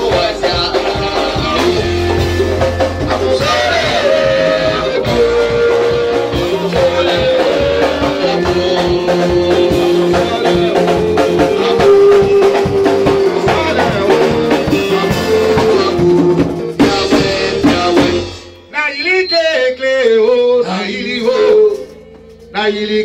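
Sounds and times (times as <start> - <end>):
drum kit steady beat: 0.0 - 19.2, 20.6 - 23.0
man singing into microphone: 0.0 - 23.0.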